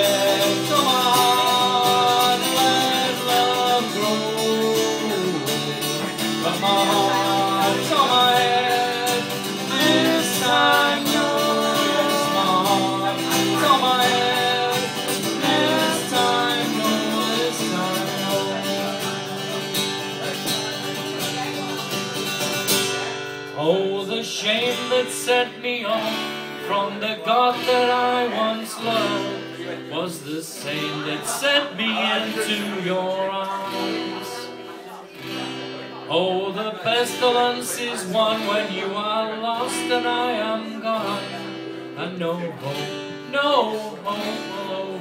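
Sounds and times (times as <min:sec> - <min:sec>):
man singing: 0:00.0 - 0:20.8, 0:23.5 - 0:45.0
acoustic guitar: 0:00.0 - 0:45.0.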